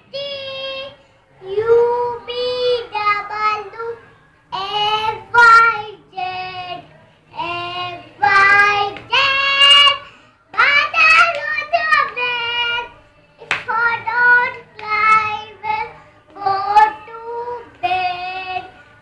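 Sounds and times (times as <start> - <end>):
girl singing unaccompanied: 0.0 - 19.0.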